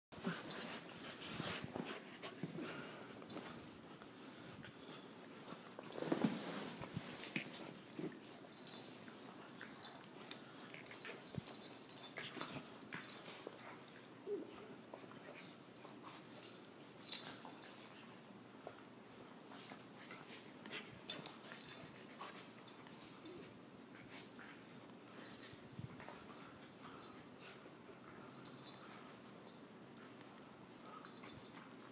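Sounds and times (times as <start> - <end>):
puppies scuffling and rustling: 0.1 - 31.9.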